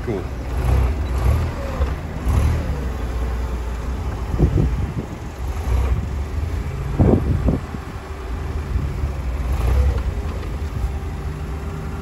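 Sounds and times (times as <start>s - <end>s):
forklift engine rumble: 0.0s - 12.0s.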